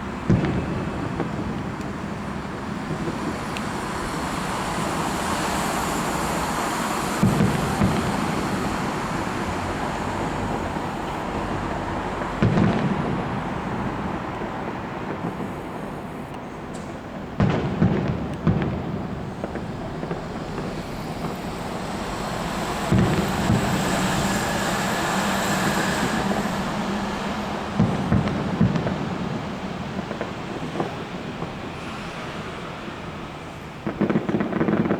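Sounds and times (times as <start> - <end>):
fireworks booming: 0.0 - 34.9
steady wash of noise: 0.0 - 34.9.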